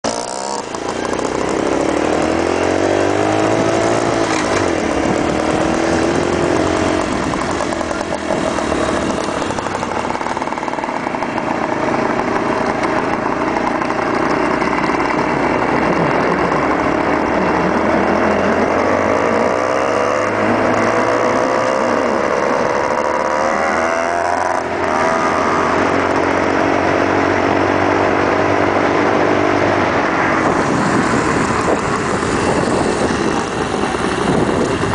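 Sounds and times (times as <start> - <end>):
small motorcycle engines revving: 0.0 - 34.9.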